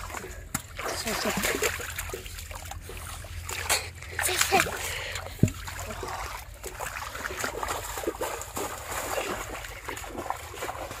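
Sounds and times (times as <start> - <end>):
feet wading through shallow water: 0.0 - 11.0.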